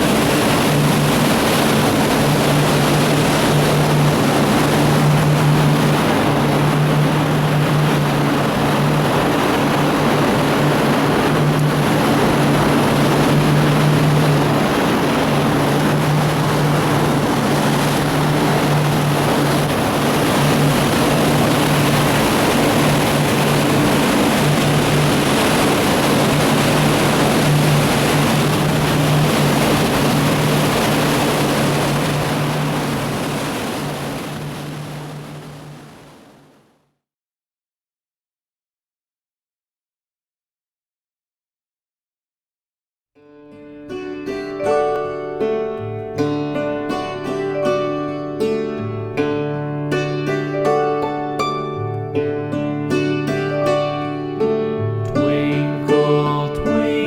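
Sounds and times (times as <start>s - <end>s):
motorboat engine humming: 0.0s - 36.7s, 44.0s - 57.0s
wind and water rushing: 0.0s - 36.8s, 44.3s - 57.0s.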